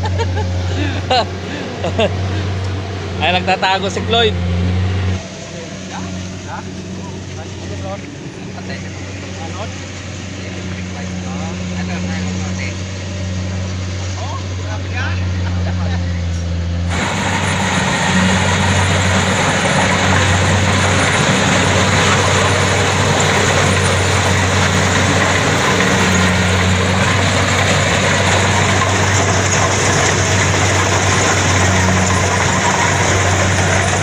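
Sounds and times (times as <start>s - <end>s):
low engine hum: 0.0s - 34.0s
machinery clattering: 0.0s - 34.0s.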